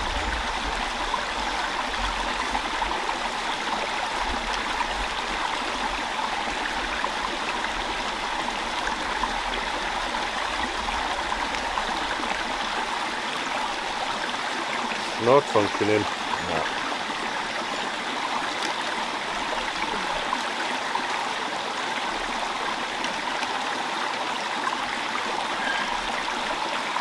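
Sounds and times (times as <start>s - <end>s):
stream babbling: 0.0s - 27.0s.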